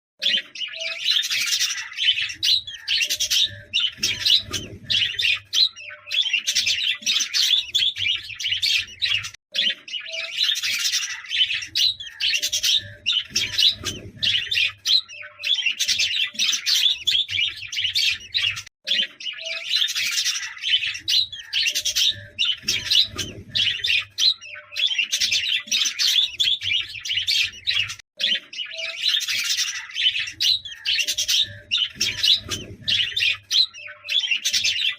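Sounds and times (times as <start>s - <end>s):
budgerigars chattering and warbling: 0.2s - 34.9s.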